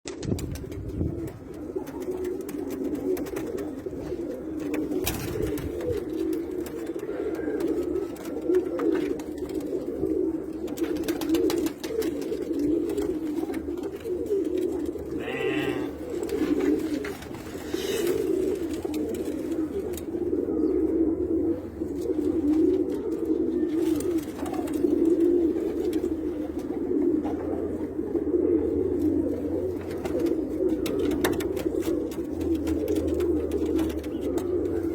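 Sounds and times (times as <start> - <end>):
pigeons cooing: 0.2 - 34.9.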